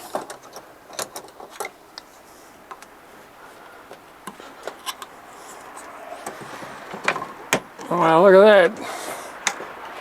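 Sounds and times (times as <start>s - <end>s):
rubber tire scraping wheel rim: 0.0s - 8.2s.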